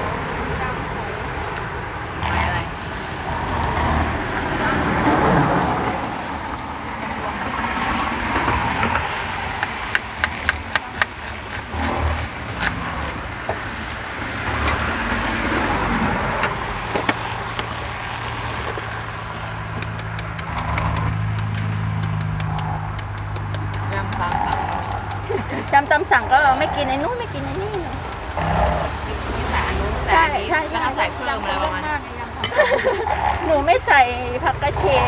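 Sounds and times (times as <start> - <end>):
car engine running: 0.0 - 35.0
road traffic: 0.0 - 35.0
sharp taps: 0.0 - 35.0.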